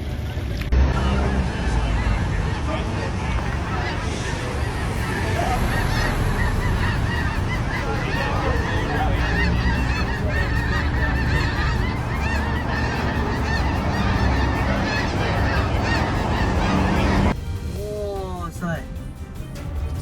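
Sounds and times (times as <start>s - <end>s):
steady low rumble: 0.0s - 17.8s
flock of birds calling: 0.2s - 17.4s.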